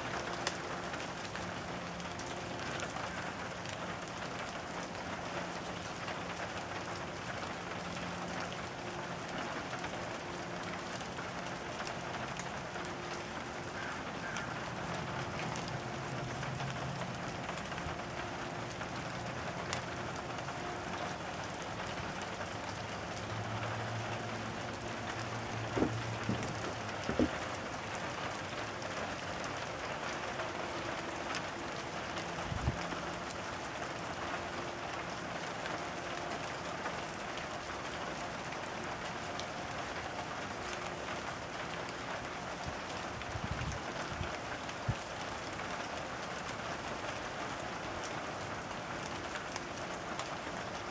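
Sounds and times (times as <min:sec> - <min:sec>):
hail pattering on ground: 0:00.0 - 0:50.9.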